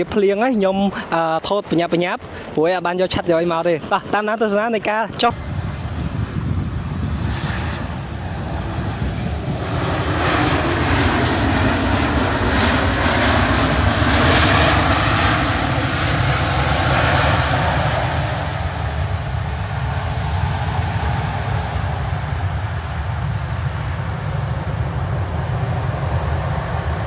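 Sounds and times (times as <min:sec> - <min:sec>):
jet engines running: 0:00.0 - 0:27.0
low rumble: 0:05.2 - 0:27.0.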